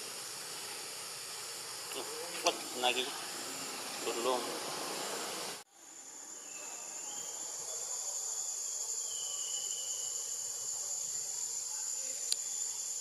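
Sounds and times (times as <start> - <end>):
insects droning in trees: 0.0 - 13.0.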